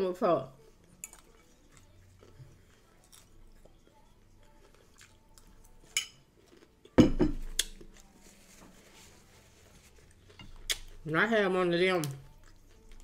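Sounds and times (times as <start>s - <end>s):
soft chewing: 0.5s - 11.1s, 12.0s - 13.0s.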